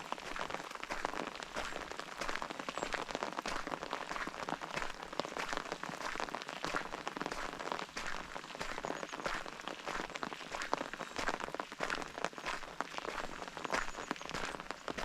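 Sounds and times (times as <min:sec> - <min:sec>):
close raindrops ticking: 0:00.0 - 0:15.0
steady rain: 0:00.0 - 0:15.0.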